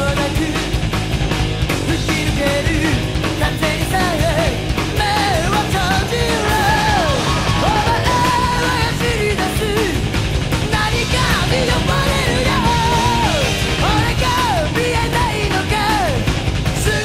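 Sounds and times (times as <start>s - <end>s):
band music with singing: 0.0s - 17.0s.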